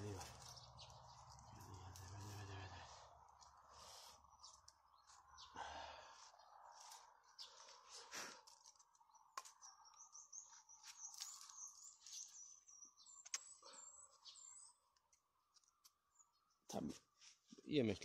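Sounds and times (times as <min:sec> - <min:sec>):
small birds twittering: 0:00.0 - 0:18.0.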